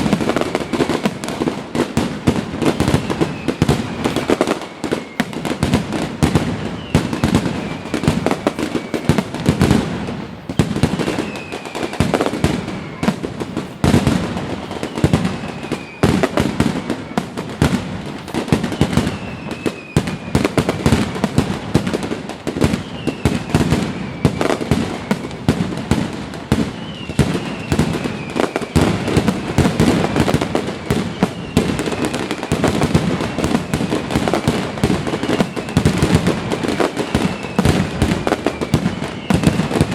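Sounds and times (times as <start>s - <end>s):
falling firework whistles: 0.0s - 39.9s
fireworks bangs and crackling: 0.0s - 39.9s.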